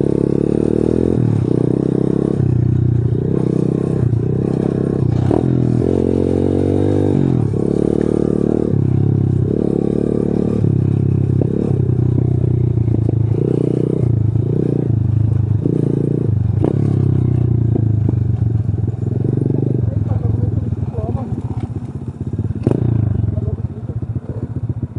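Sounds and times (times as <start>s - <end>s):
motorbike engine revving: 0.0s - 24.9s.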